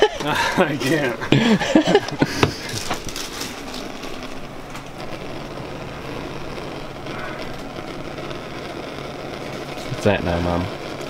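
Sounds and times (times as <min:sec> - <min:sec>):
electric motor humming: 0:02.0 - 0:11.0.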